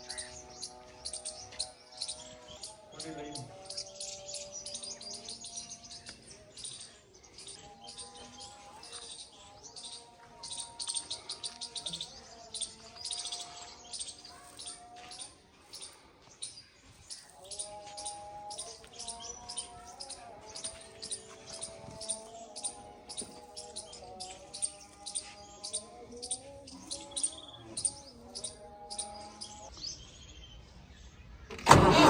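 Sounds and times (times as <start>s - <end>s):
small birds chirping: 0.0s - 31.6s.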